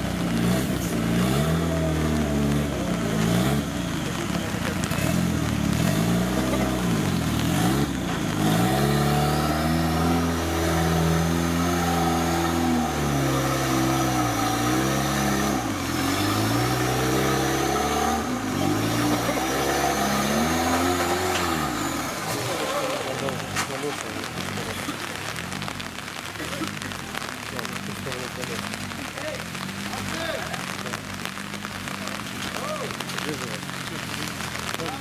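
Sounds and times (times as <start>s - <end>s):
off-road engine revving: 0.0s - 35.0s.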